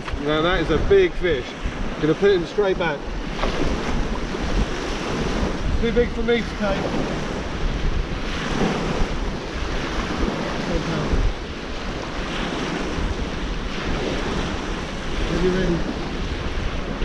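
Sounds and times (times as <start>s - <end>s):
small waves breaking: 0.0s - 17.0s
wind buffeting microphone: 0.0s - 17.0s.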